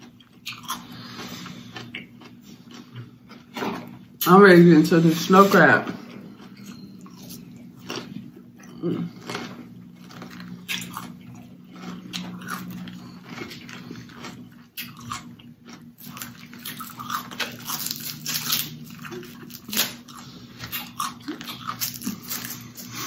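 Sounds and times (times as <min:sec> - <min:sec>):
chewing: 0:00.0 - 0:04.0, 0:05.9 - 0:23.0.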